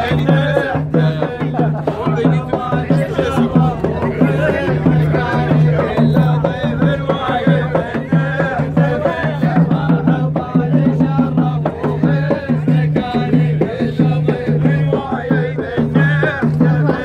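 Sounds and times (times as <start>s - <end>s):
steady drum rhythm: 0.0s - 17.0s
voices singing: 0.0s - 17.0s.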